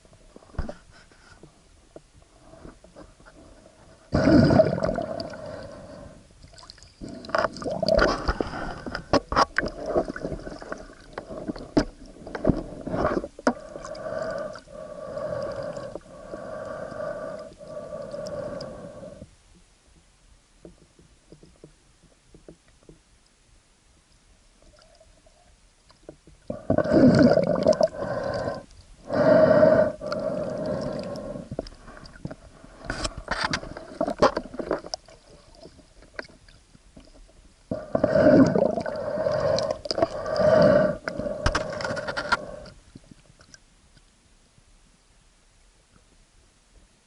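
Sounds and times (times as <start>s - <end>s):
water gurgling and sloshing: 2.2s - 23.1s, 24.6s - 43.8s.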